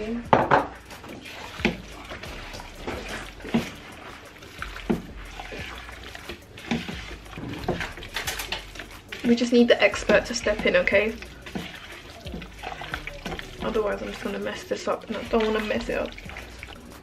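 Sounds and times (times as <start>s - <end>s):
wet squelches of marinating chicken: 0.7s - 17.0s.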